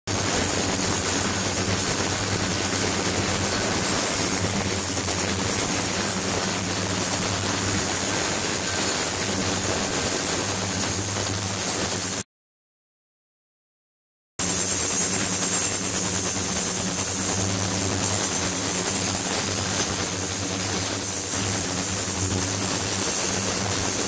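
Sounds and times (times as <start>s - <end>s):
ultrasonic cleaner hissing and whining: 0.1s - 12.2s, 14.4s - 24.0s.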